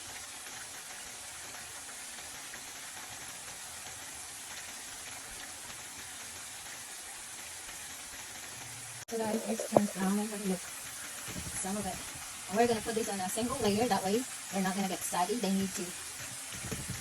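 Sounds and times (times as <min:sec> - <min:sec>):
potato slices sizzling in oil: 0:00.0 - 0:17.0.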